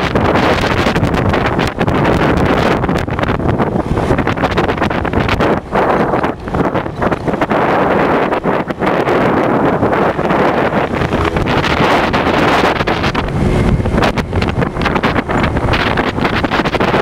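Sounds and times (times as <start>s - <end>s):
vehicle rumble: 0.0s - 17.0s
wind buffeting microphone: 0.0s - 17.0s.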